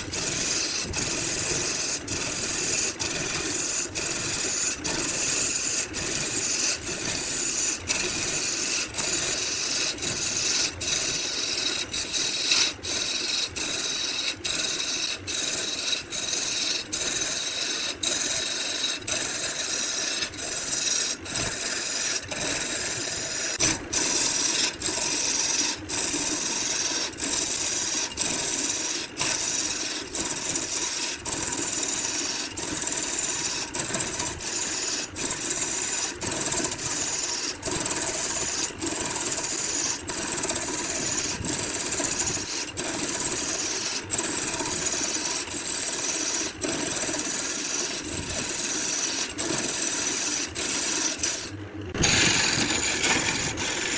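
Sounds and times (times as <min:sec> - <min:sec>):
wood being sanded: 0:00.0 - 0:53.9.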